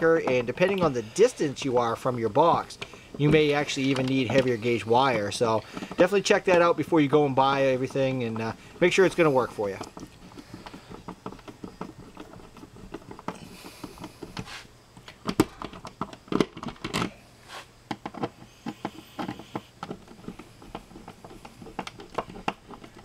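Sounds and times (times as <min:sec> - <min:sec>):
screwdriver clicking and scraping: 0:00.0 - 0:06.6, 0:08.0 - 0:23.0.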